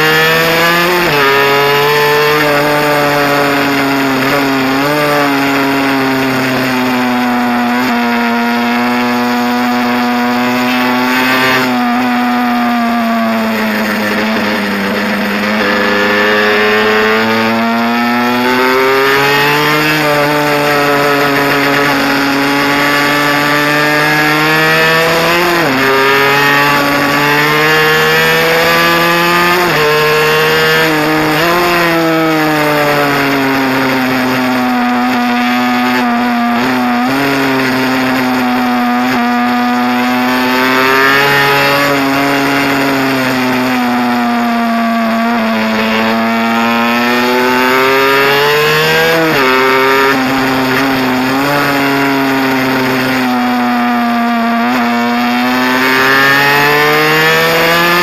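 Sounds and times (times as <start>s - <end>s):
mini bike engine buzzing: 0.0s - 58.0s.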